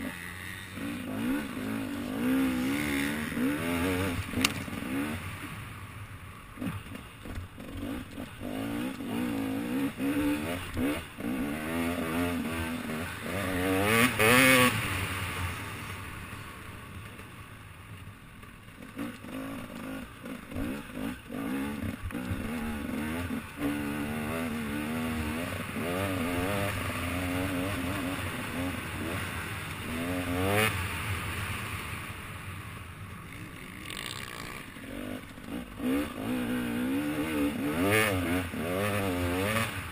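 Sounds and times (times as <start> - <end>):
motorcycle engine revving: 0.0 - 17.2, 18.7 - 32.6, 33.2 - 39.9.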